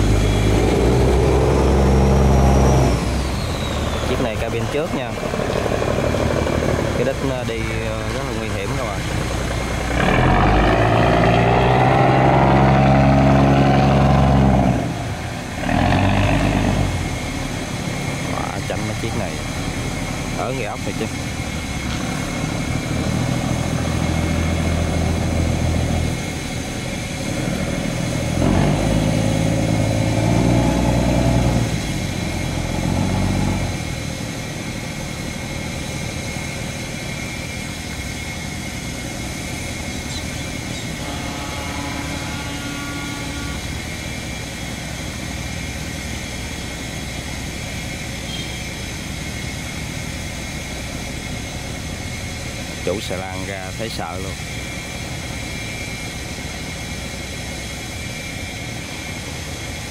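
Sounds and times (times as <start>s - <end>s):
barge engine running: 0.0s - 59.9s.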